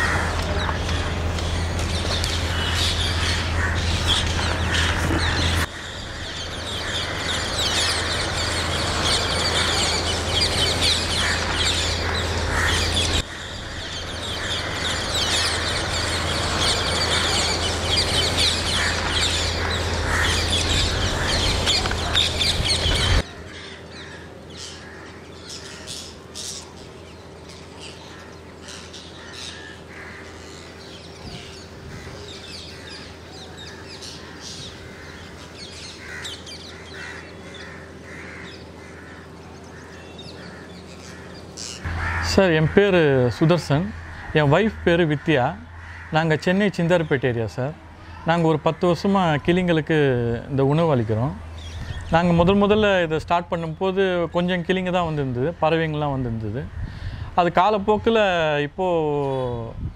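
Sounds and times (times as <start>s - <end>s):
parakeets calling: 0.0s - 59.7s.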